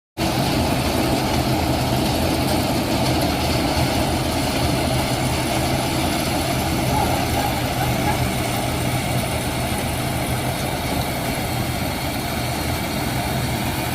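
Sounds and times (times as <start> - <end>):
harvester engine running: 0.2 - 13.9.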